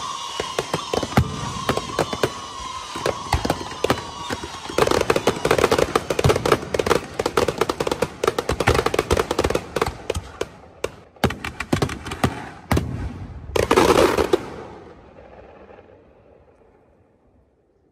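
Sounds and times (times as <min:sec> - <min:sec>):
fireworks bangs and crackling: 0:00.0 - 0:16.5.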